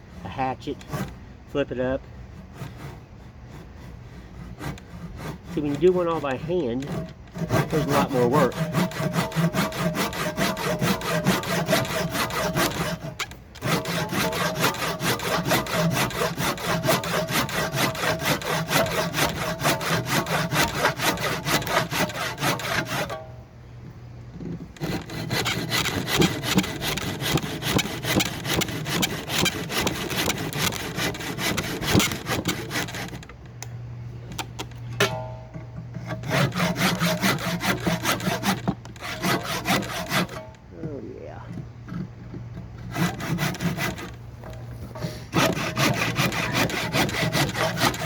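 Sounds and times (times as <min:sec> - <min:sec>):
handsaw cutting wood: 0:00.0 - 0:23.3, 0:24.6 - 0:33.3, 0:35.9 - 0:48.0.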